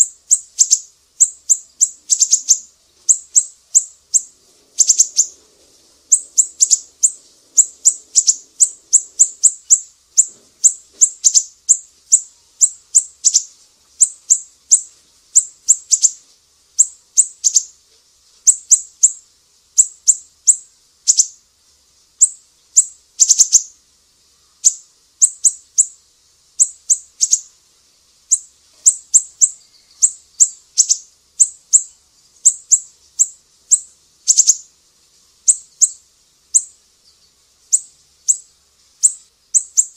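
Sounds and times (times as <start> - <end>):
songbird high sharp chirps: 0.0 - 5.4, 6.0 - 16.2, 16.8 - 17.8, 18.4 - 19.2, 19.8 - 21.4, 22.2 - 23.8, 24.4 - 27.5, 28.2 - 34.7, 35.4 - 39.9.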